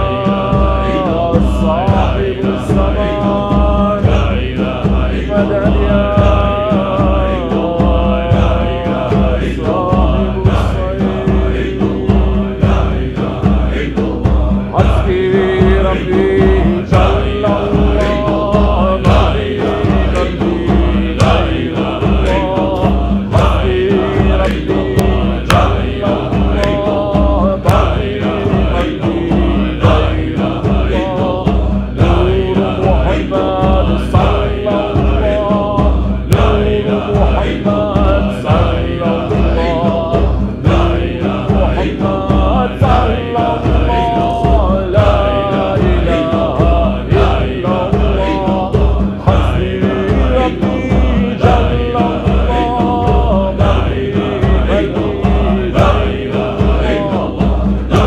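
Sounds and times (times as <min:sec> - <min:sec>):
men chanting rhythmically: 0:00.0 - 0:58.0.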